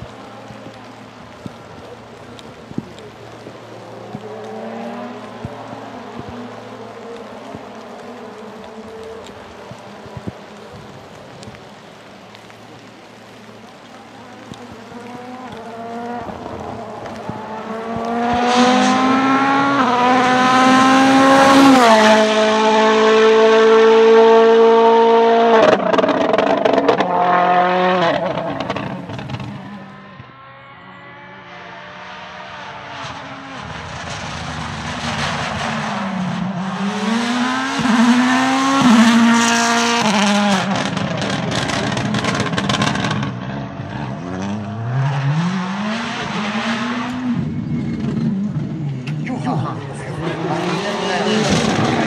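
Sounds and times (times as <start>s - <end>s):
rally car engine revving: 0.0s - 10.7s, 14.2s - 52.0s.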